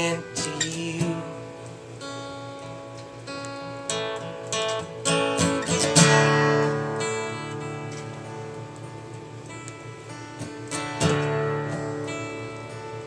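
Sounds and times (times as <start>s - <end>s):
acoustic guitar picked and strummed: 0.0s - 13.0s.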